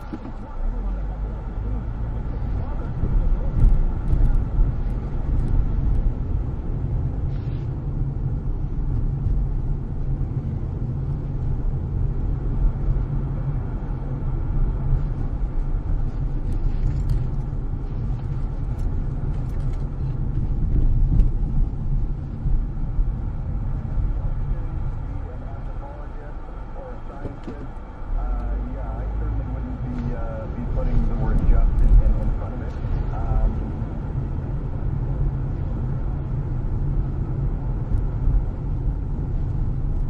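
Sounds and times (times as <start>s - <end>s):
car engine and tyres rumbling: 0.0s - 40.0s.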